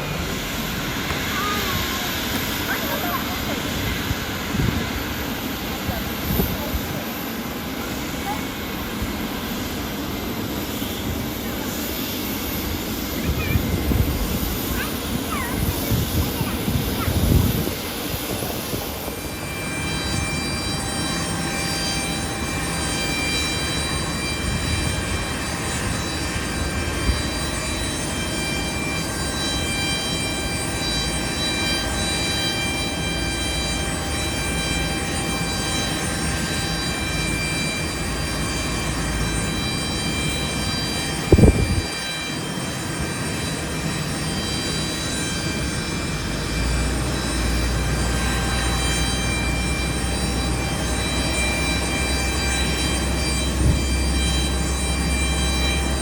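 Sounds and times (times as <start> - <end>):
airliner engines whining: 0.0 - 56.0.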